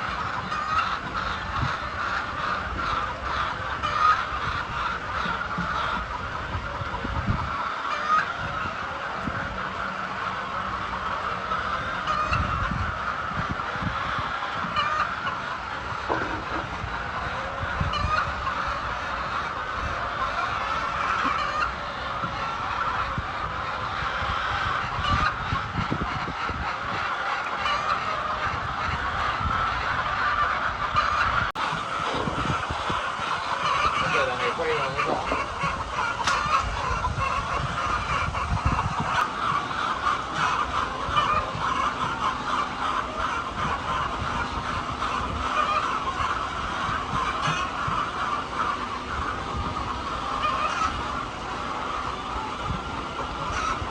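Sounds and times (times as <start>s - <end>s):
flock of chickens clucking: 0.0s - 53.9s.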